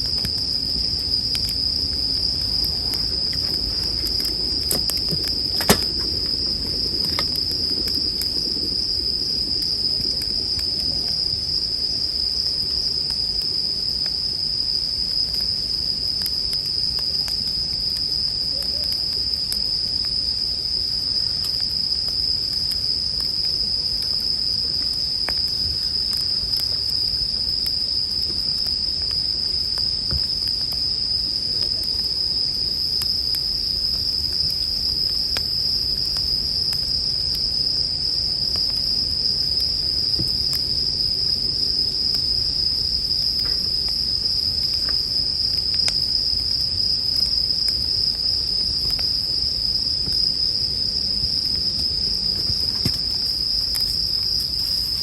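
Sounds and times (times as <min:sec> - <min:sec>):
campfire crackling and popping: 0:00.0 - 0:55.0
crickets chirping chorus: 0:00.0 - 0:55.0.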